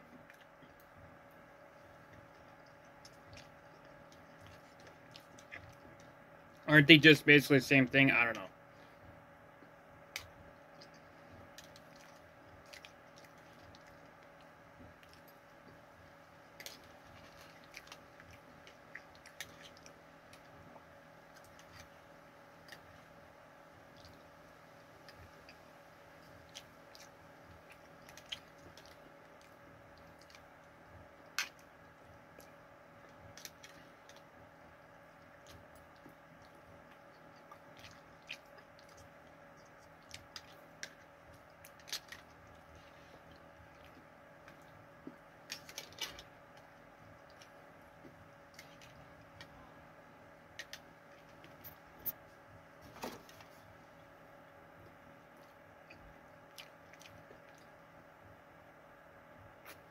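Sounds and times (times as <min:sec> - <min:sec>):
faint hum: 0:00.0 - 0:59.9
person chewing: 0:01.8 - 0:06.6, 0:09.6 - 0:49.8, 0:54.8 - 0:57.8.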